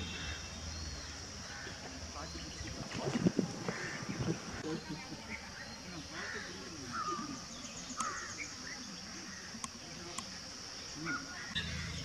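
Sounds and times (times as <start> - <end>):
high insect buzz: 0.0 - 12.0
faint voices talking: 1.5 - 11.6.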